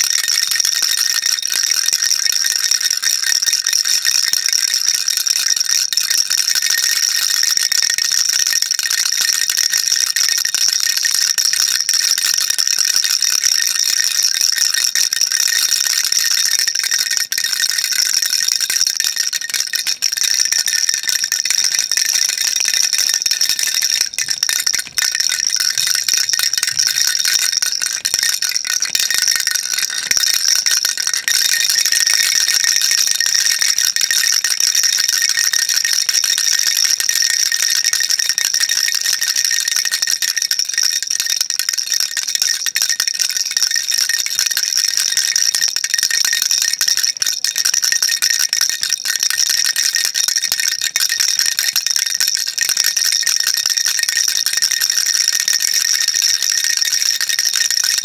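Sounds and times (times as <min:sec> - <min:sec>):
baby rattle shaking: 0:00.0 - 0:54.0.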